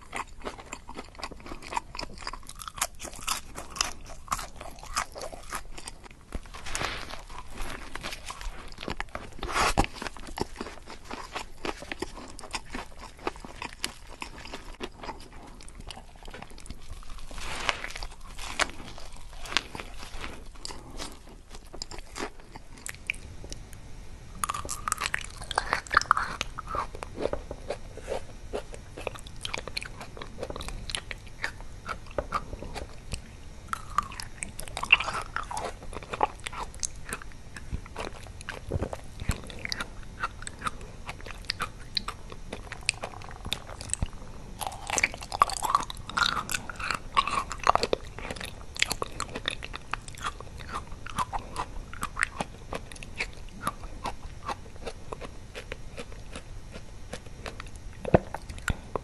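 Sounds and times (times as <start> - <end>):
crisp chewing crunches: 0.0 - 23.8, 24.4 - 59.0.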